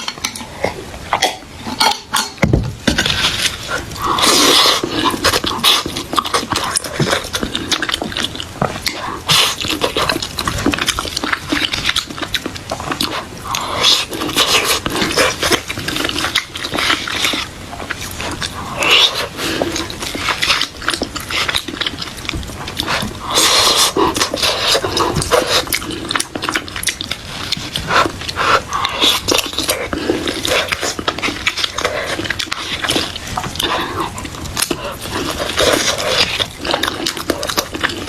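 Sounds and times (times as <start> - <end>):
person chewing: 0.0 - 38.0.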